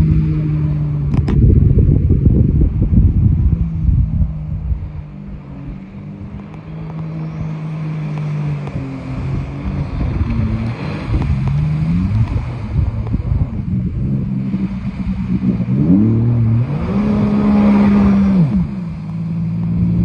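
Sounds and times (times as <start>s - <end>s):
jet boat engine running: 0.0s - 20.0s
wind rumbling on microphone: 0.0s - 20.0s.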